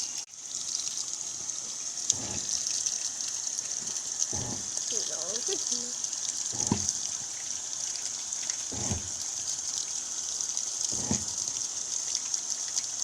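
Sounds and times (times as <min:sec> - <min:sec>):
water running into washing machine: 0:00.0 - 0:13.0.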